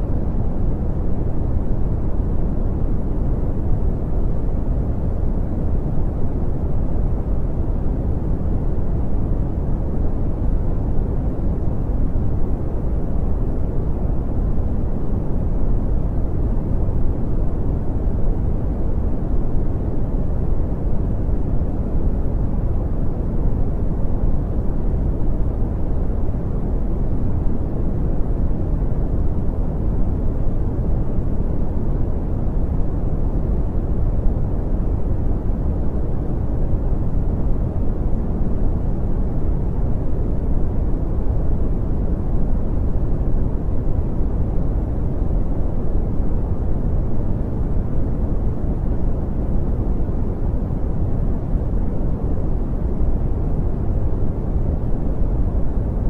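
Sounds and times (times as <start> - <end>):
deep rumbling brown noise: 0.0 - 56.0.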